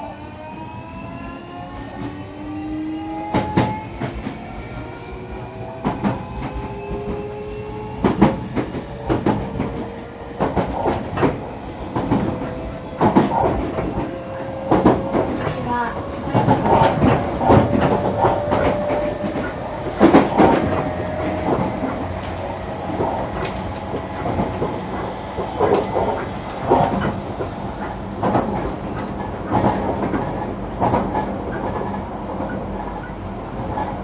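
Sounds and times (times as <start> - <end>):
train rolling rumble: 0.0 - 34.0
train wheels clacking over joints: 5.7 - 34.0.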